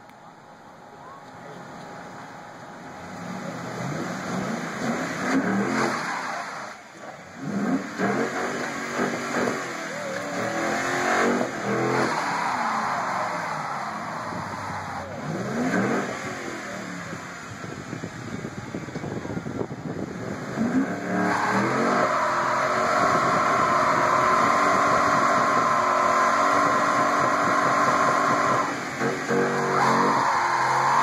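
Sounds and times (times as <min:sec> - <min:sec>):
car engine revving: 0:00.8 - 0:31.0.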